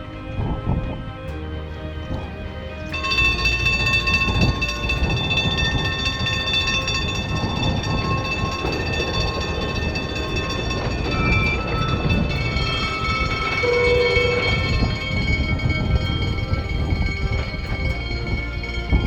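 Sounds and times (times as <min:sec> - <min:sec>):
tramcar rumbling on rails: 0:00.0 - 0:19.0.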